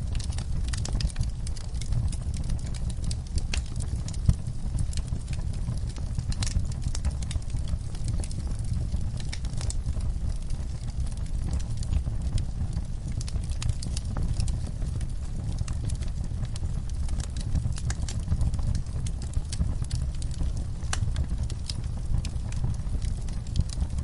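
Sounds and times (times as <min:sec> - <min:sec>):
fire pops and snaps: 0:00.0 - 0:24.0
low rumble of flames: 0:00.0 - 0:24.0.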